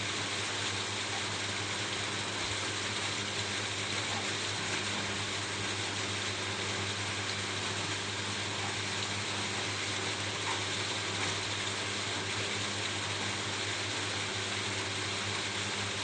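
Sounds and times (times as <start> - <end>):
rain falling on a roof: 0.1 - 16.0.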